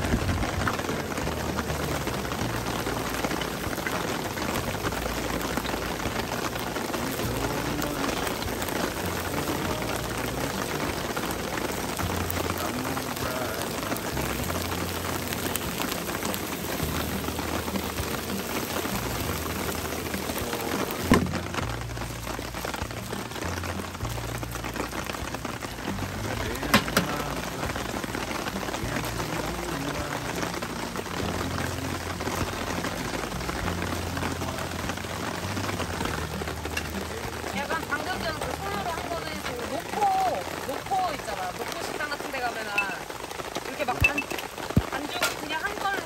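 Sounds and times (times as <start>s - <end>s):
heavy rain: 0.0s - 46.0s.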